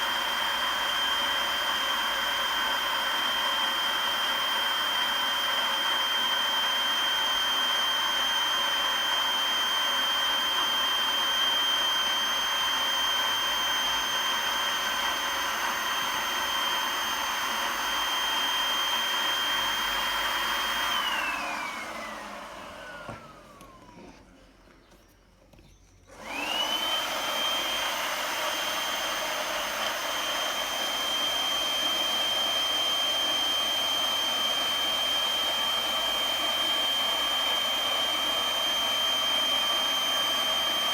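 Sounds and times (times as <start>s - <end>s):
cordless blower whining: 0.0s - 25.0s, 26.0s - 40.9s.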